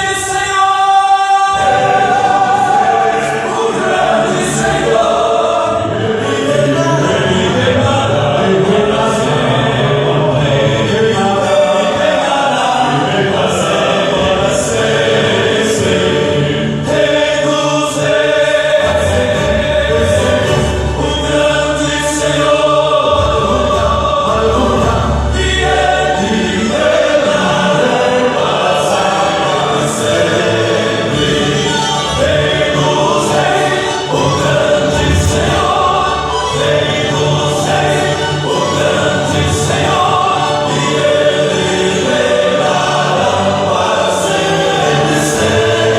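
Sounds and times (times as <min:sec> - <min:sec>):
gospel vocal quartets singing: 0:00.0 - 0:45.9
instrumental accompaniment: 0:00.0 - 0:45.9.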